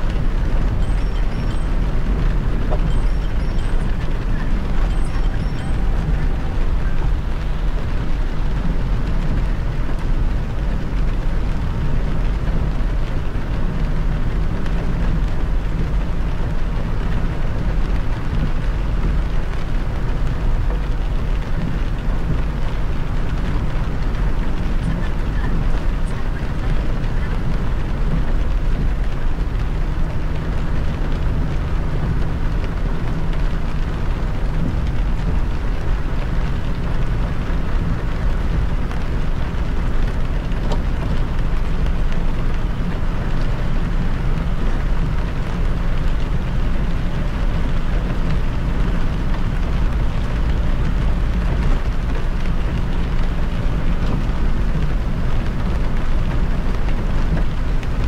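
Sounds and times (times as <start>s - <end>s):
tyres and engine rumble: 0.0s - 58.0s
hiss of rain and spray: 6.0s - 58.0s.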